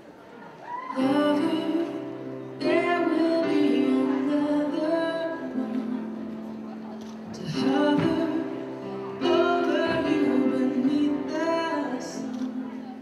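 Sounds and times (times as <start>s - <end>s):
woman singing: 0.9s - 6.4s, 7.4s - 13.0s.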